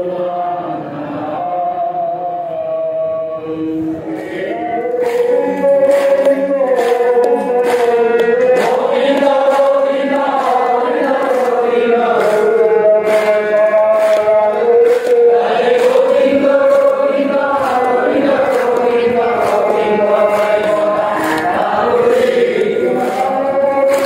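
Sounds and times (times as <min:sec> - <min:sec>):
group chanting a prayer: 0:00.0 - 0:24.0.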